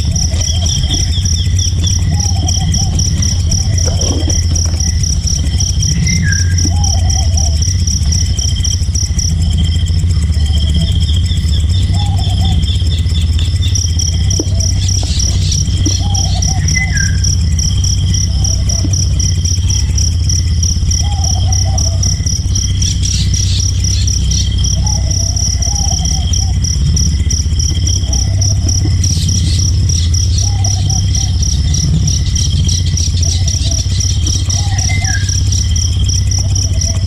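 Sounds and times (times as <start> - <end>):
low warbling call: 0.0 - 20.0, 20.8 - 37.0
insects trilling: 0.0 - 37.0
steady low rumble: 0.0 - 37.0.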